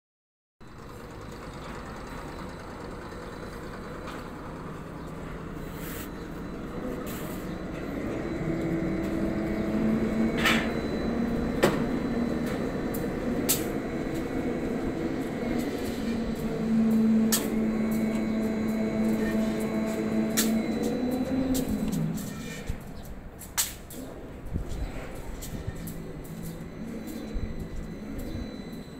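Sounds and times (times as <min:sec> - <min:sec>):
crane machine hum: 0:00.6 - 0:28.9.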